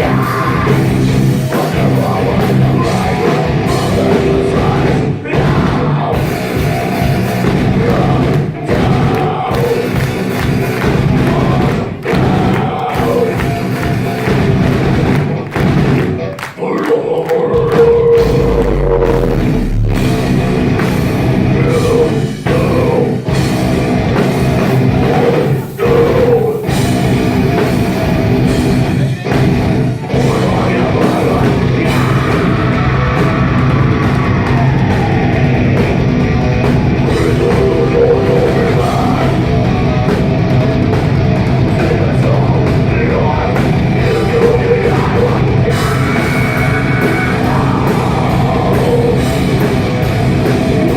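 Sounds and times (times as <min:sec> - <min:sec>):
heavy metal band playing: 0:00.0 - 0:50.9.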